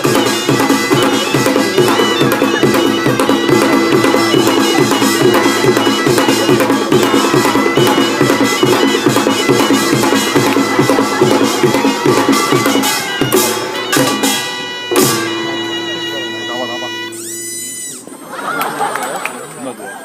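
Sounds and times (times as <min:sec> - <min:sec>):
reedy wind instrument: 0:00.0 - 0:18.3
percussion band playing: 0:00.0 - 0:19.2.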